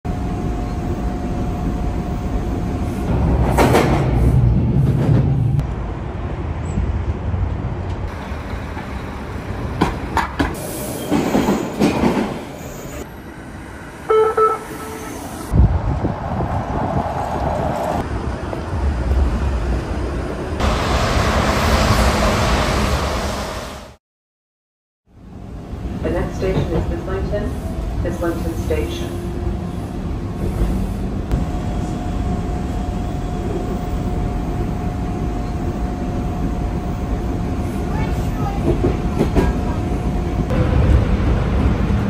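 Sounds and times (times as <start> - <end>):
subway trains passing: 0.1 - 24.0, 25.1 - 42.0.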